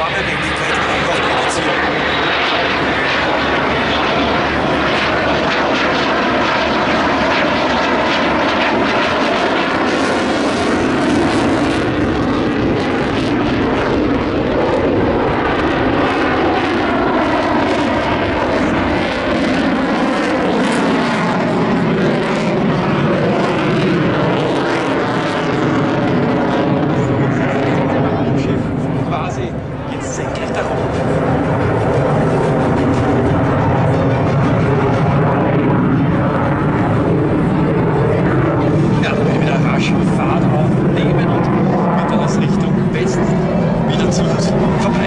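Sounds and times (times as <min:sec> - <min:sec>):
fighter jet engines roaring: 0:00.0 - 0:45.0.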